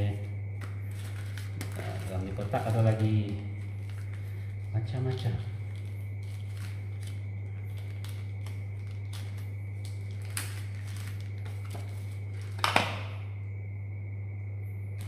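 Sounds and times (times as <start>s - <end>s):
paper packaging crinkling: 0.0s - 13.0s
low electrical hum: 0.0s - 15.0s.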